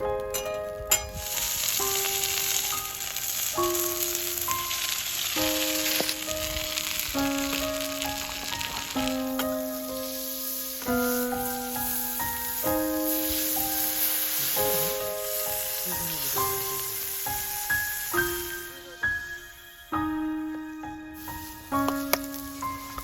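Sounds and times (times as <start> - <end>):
food sizzling on a griddle: 0.0 - 23.0
slow piano music: 0.0 - 23.0.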